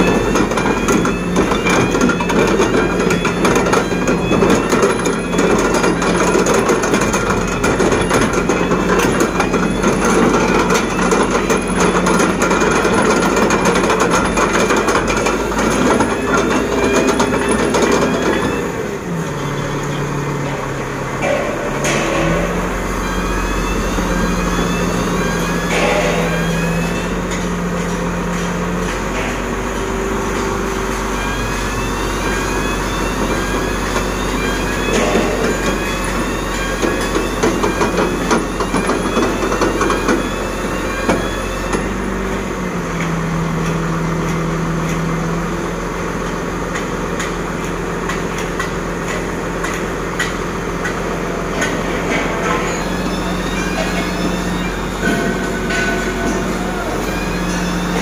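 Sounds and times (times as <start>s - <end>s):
metal knocks and clanks: 0.0s - 19.1s, 19.7s - 42.0s, 46.7s - 58.0s
diesel engine running: 0.0s - 58.0s.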